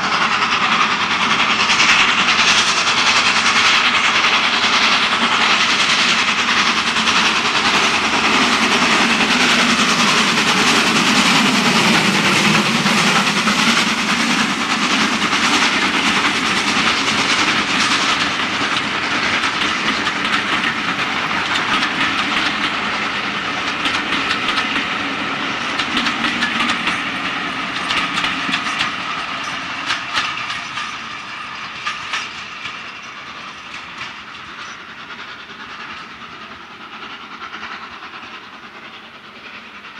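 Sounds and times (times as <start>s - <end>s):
steam locomotive passing: 0.0s - 39.9s
train wheels clattering over rail joints: 0.0s - 39.9s.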